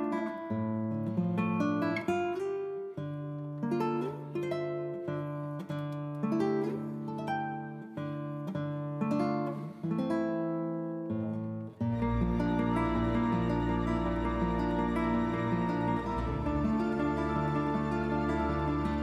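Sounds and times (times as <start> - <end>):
acoustic guitar picking: 0.0 - 19.0.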